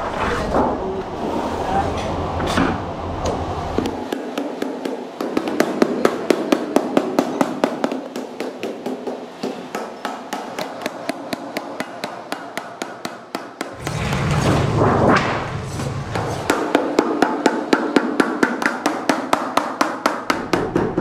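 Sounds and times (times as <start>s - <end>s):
wooden mallet striking sheet metal: 3.8s - 21.0s.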